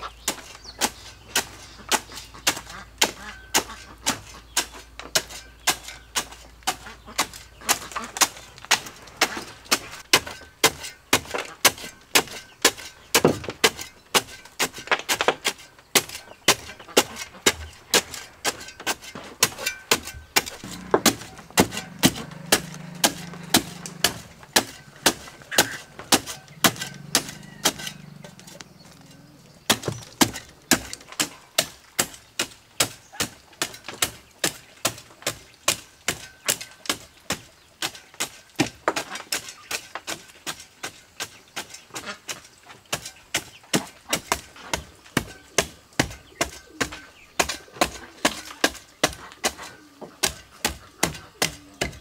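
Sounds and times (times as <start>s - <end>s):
spade chopping into dry soil: 0.1s - 52.0s.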